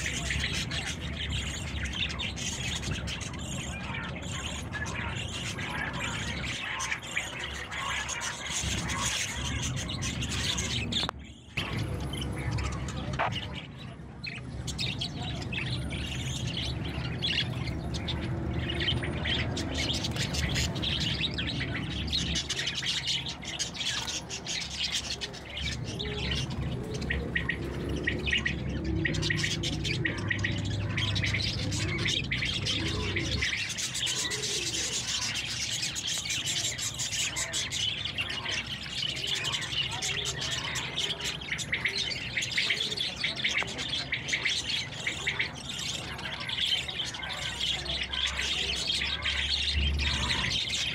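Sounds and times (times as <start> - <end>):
small birds chirping and twittering: 0.0 - 50.9.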